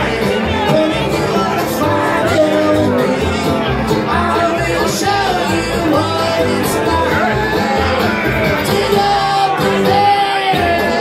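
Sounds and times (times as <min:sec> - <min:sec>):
acoustic guitar: 0:00.0 - 0:11.0
banjo: 0:00.0 - 0:11.0
mandolin: 0:00.0 - 0:11.0
upright bass: 0:00.0 - 0:11.0.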